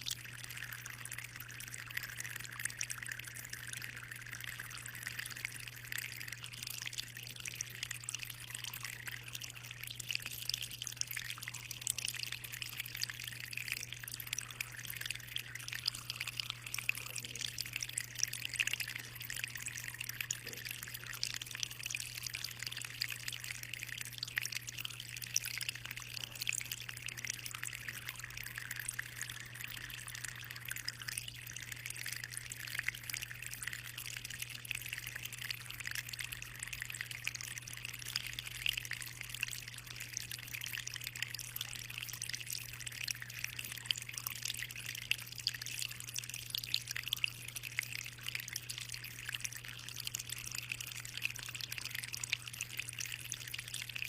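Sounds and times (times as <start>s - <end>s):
aquarium water trickling: 0.0s - 54.0s.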